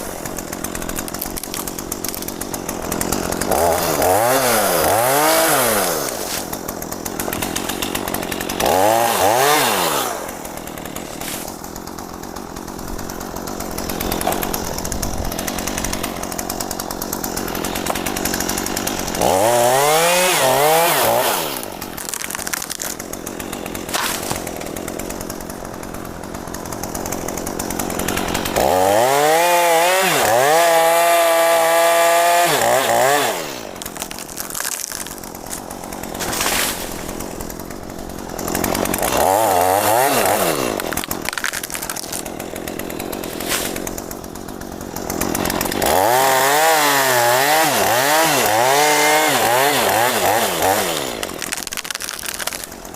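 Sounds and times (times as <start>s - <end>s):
chainsaw engine revving: 0.0s - 52.9s.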